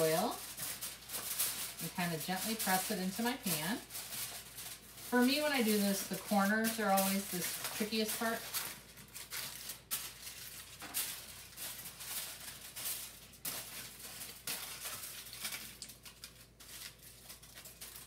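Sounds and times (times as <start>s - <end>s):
aluminum foil crinkling: 0.0s - 18.0s.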